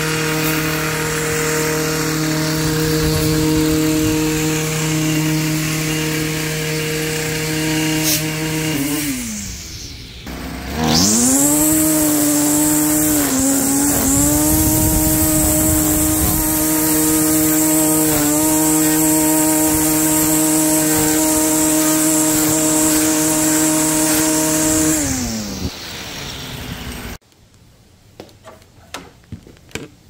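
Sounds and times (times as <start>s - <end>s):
lawn mower running with high whine: 0.0s - 27.2s.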